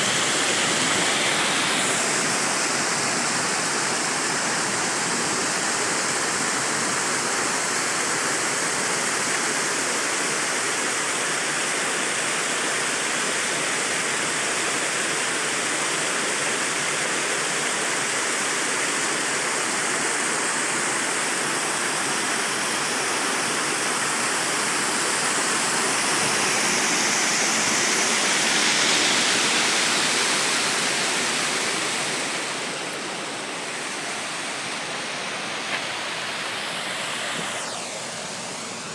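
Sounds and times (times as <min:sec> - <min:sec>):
waterfall cascading over rocks: 0:00.0 - 0:38.9.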